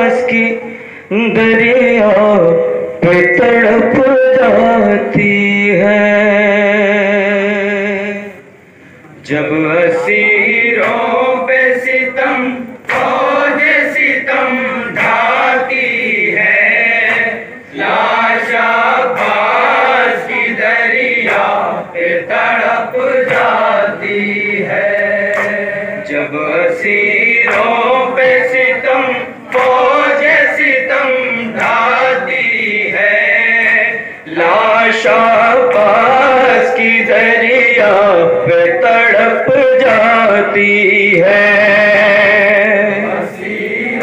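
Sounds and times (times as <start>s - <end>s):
men singing a lament in chorus: 0.0s - 8.4s, 9.3s - 44.0s.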